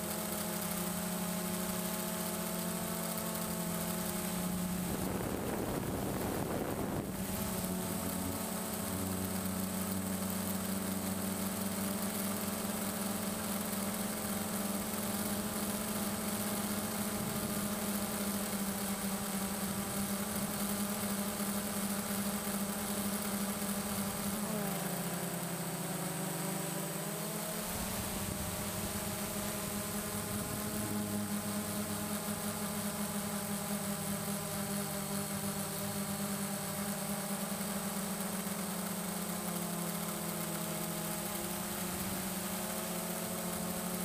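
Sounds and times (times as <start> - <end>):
drone propellers humming: 0.0 - 44.0
high motor whine: 0.0 - 44.0.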